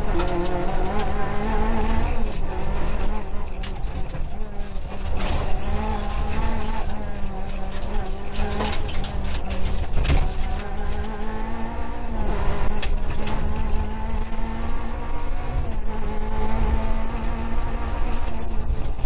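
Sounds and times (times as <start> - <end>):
rally car engine running hard: 0.0 - 19.0
road and drivetrain noise: 0.0 - 19.0.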